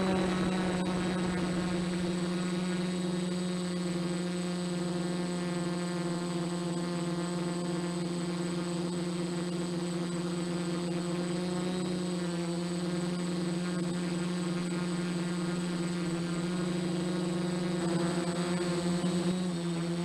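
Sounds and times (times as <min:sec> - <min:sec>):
quadcopter propellers buzzing: 0:00.0 - 0:20.0.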